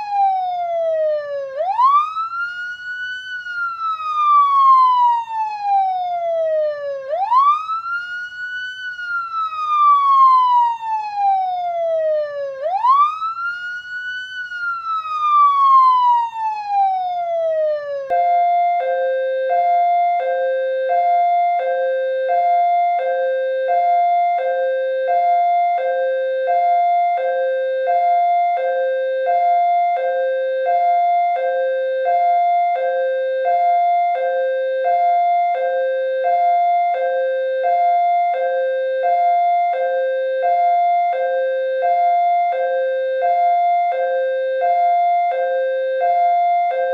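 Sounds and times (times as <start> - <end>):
police siren wailing: 0.0 - 46.9.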